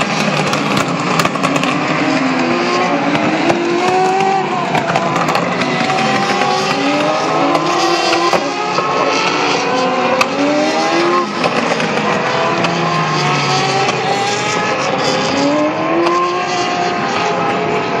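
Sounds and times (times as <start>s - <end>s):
racing car engines accelerating: 0.0s - 18.0s.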